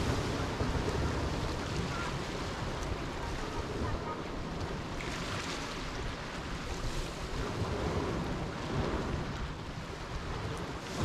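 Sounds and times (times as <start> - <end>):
waves washing over pebbles: 0.0 - 11.0
wind on microphone: 0.0 - 11.0.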